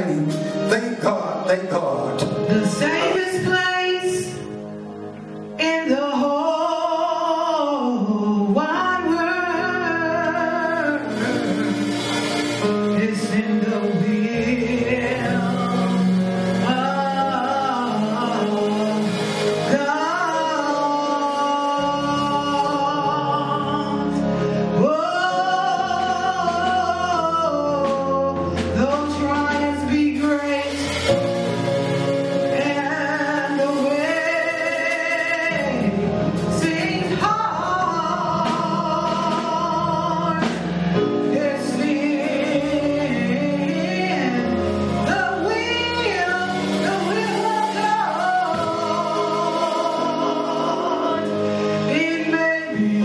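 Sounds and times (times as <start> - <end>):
woman singing gospel: 0.0 - 4.6, 5.6 - 11.9, 12.6 - 53.0
low instrumental chords: 0.0 - 53.0.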